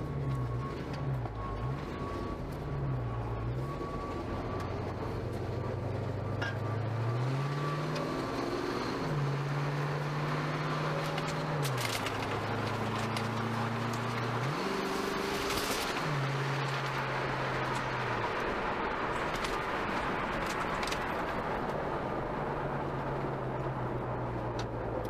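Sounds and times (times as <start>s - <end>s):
car engine revving: 0.0s - 25.0s
road noise: 0.0s - 25.0s.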